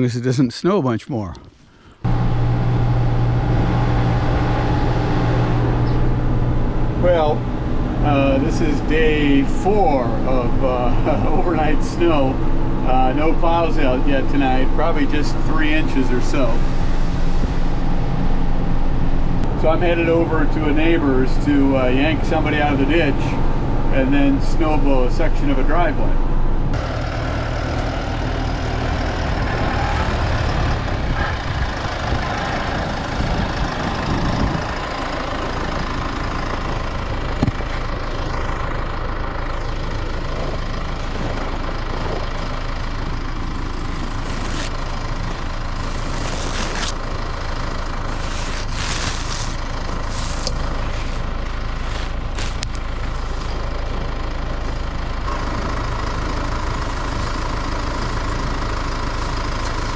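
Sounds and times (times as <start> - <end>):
heavy vehicle engine humming: 1.6 - 59.9.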